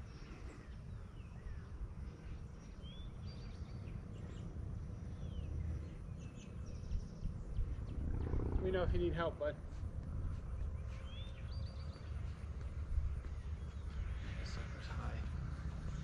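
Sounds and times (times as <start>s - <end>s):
steady low rumble: 0.0s - 16.0s
bird chirps: 0.5s - 8.8s, 10.3s - 15.0s.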